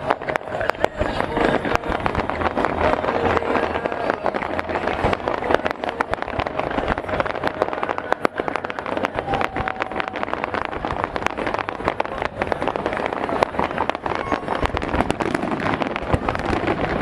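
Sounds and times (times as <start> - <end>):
fireworks bangs and crackles: 0.0 - 17.0
steady noisy background: 0.0 - 17.0.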